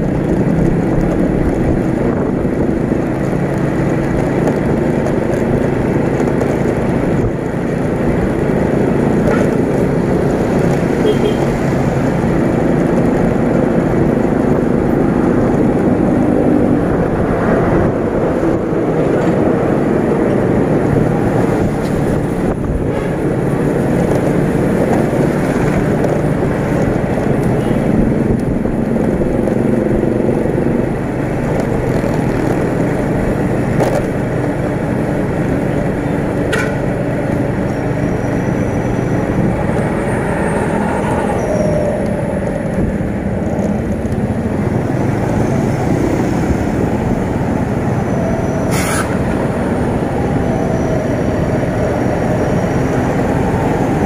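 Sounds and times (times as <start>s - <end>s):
vehicles passing: 0.0s - 54.0s
wind rush on microphone: 0.0s - 54.0s.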